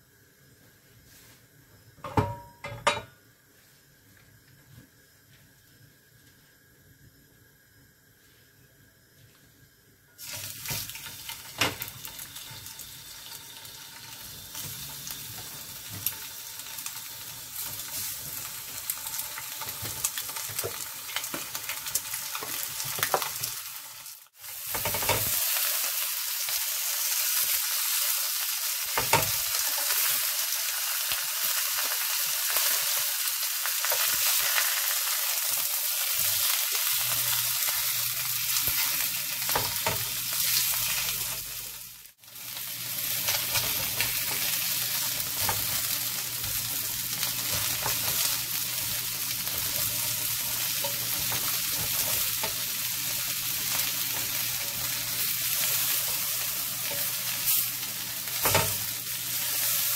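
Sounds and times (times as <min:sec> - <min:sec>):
fish sizzling in hot oil: 0:10.2 - 0:59.9.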